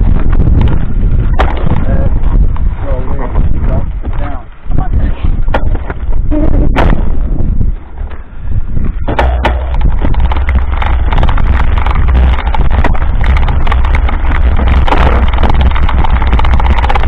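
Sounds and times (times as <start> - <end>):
bike rattling over bumps: 0.0 - 17.0
wind rumble on microphone: 0.0 - 17.0.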